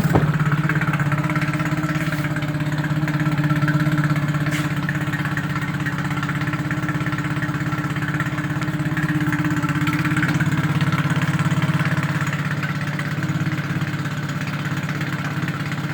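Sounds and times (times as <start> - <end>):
outboard motor idling: 0.0 - 15.9.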